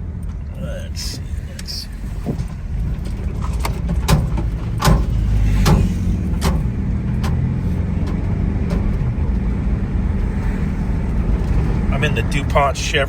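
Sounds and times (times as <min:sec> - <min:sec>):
car cabin road noise: 0:00.0 - 0:13.0.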